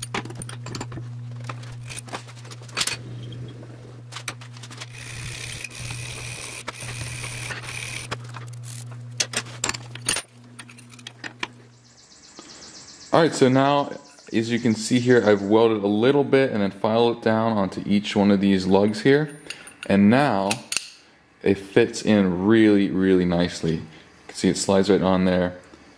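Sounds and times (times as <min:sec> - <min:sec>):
steady low hum: 0:00.0 - 0:25.7.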